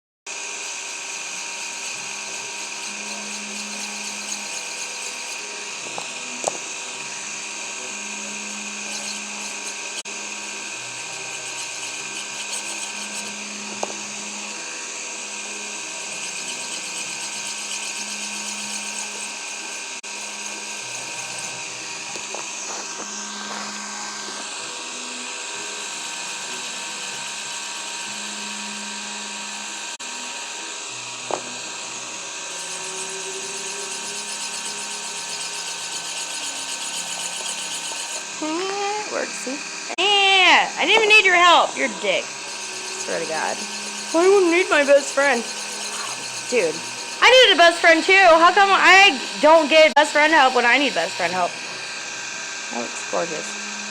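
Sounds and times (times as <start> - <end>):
power tool motor whining: 0.3 - 53.9.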